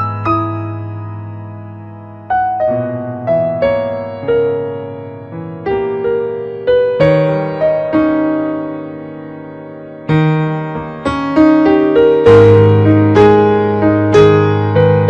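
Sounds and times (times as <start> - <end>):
solo piano notes and chords: 0.0 - 15.0.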